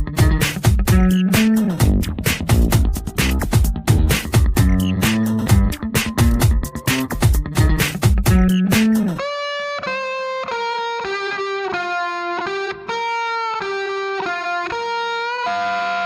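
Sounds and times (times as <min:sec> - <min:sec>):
distorted electric guitar melody: 0:00.0 - 0:16.0.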